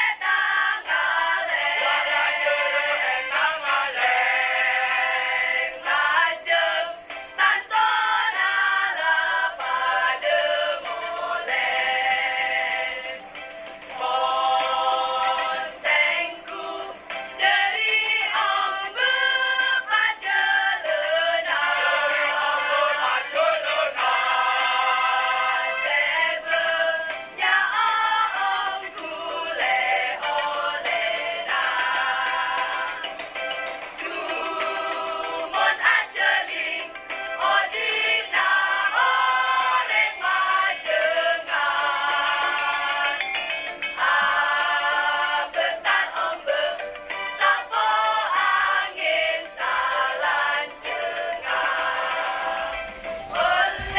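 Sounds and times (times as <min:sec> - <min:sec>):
choir singing held chords: 0:00.0 - 0:53.9.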